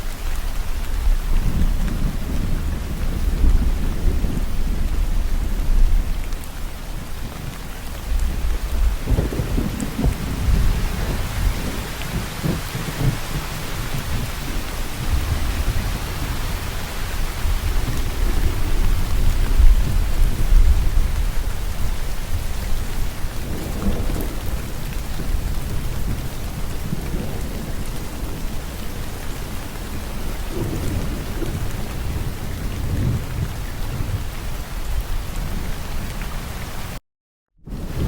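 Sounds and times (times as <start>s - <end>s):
heavy rain: 0.0s - 37.0s, 37.7s - 38.0s
rolling thunder: 0.7s - 36.3s, 37.7s - 38.0s.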